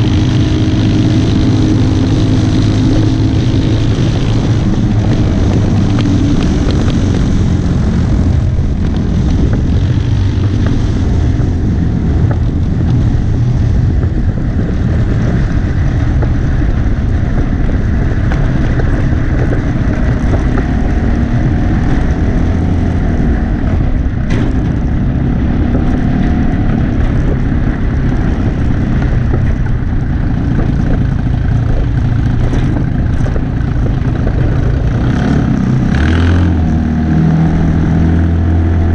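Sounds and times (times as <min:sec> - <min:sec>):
engine low rumble: 0:00.0 - 0:38.9.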